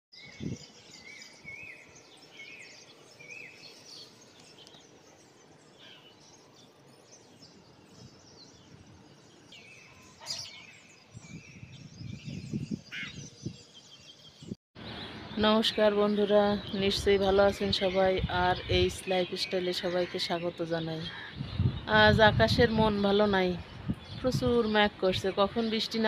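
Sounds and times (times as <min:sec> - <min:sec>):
small birds chirping: 0:00.2 - 0:26.0.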